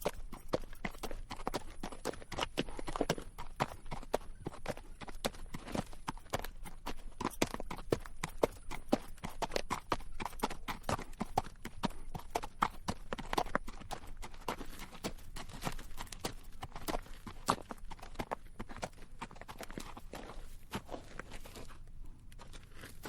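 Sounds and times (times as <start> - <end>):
hooves clip-clopping on rocky trail: 0.0 - 23.0.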